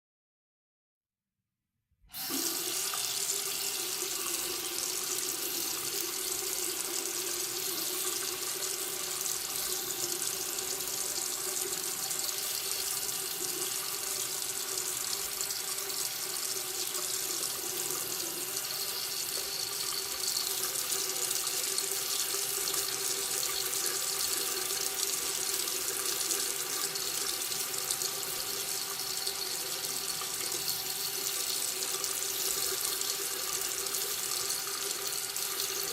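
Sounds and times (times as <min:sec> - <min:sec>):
water running from faucet: 0:02.1 - 0:35.9.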